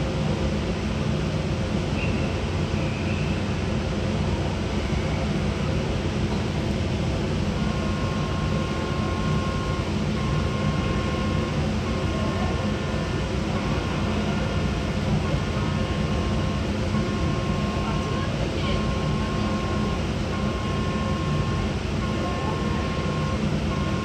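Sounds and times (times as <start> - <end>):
ship engines rumbling: 0.0 - 24.0.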